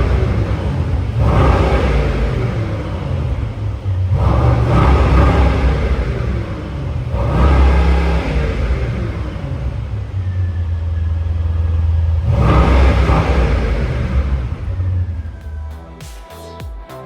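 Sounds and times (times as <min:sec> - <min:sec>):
car engine idling: 0:00.0 - 0:16.6
car engine revving: 0:00.0 - 0:16.6.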